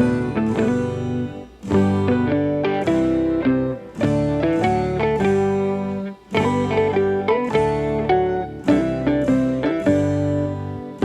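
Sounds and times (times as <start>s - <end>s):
plucked melody over bass: 0.0s - 11.0s.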